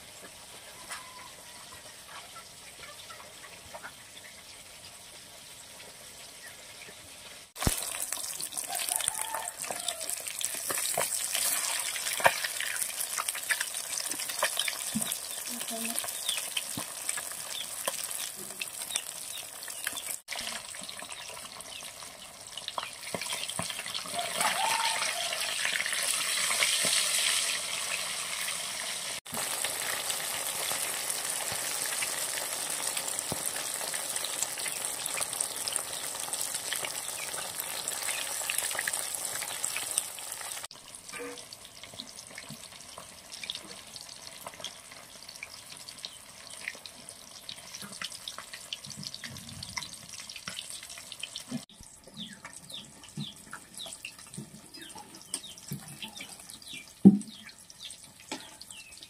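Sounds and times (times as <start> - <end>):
fish deep-frying in sizzling oil: 0.0 - 59.0.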